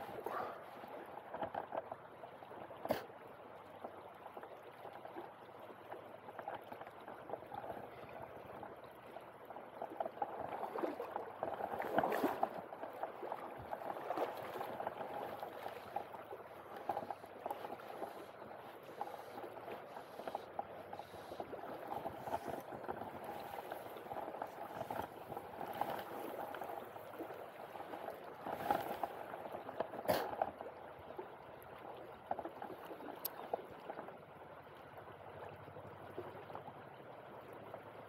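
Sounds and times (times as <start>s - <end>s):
river rippling over stones: 0.0s - 38.0s.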